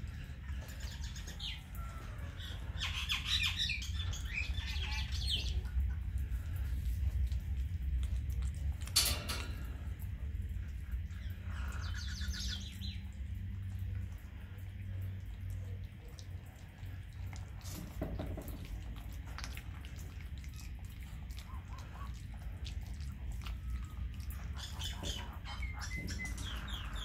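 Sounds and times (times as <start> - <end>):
birds chirping and squawking: 0.0 - 7.3, 8.6 - 15.8, 16.4 - 27.0
steady low rumble: 0.0 - 27.0.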